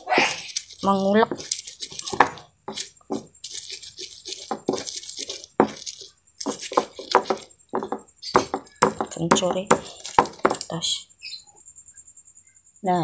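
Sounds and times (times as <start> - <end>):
stone pestle grinding in mortar: 0.0 - 10.7.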